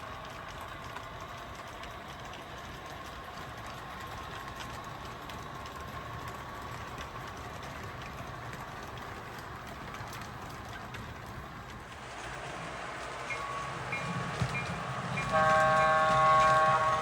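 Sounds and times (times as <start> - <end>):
model train humming: 0.0 - 17.0
wheels clicking over rail joints: 0.0 - 17.0.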